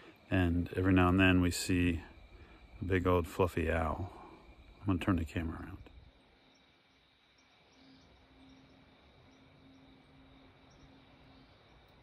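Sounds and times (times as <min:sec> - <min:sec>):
faint crickets trilling: 0:00.0 - 0:12.0.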